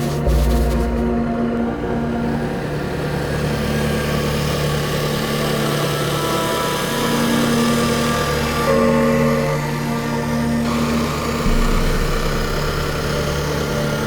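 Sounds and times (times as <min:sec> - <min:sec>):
model motor humming: 0:02.5 - 0:14.0.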